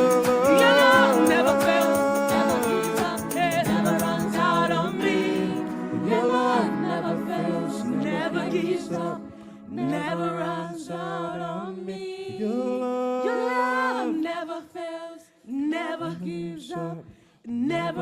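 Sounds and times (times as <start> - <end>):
voices singing slow worship song: 0.0 - 18.0.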